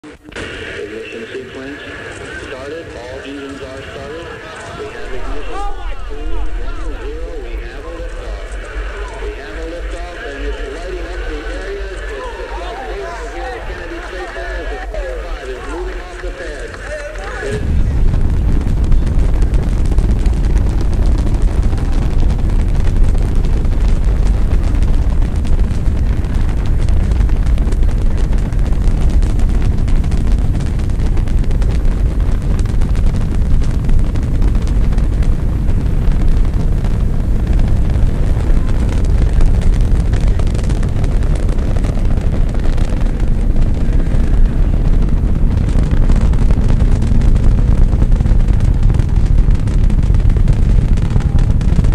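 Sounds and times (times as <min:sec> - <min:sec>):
rocket engines rumbling: 0:00.0 - 0:51.9.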